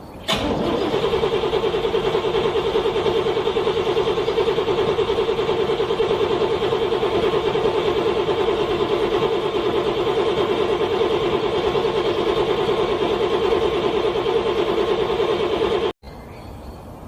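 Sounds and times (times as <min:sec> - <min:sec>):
car engine cranking: 0:00.2 - 0:15.9.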